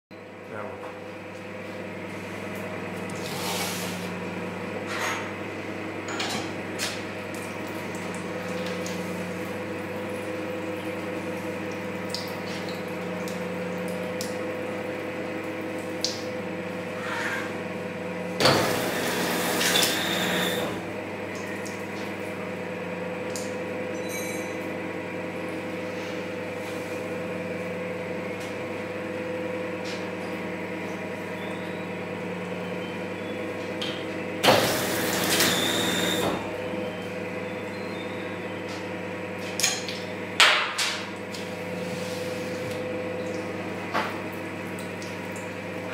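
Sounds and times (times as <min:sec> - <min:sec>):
machine electric hum: 0:00.2 - 0:45.9.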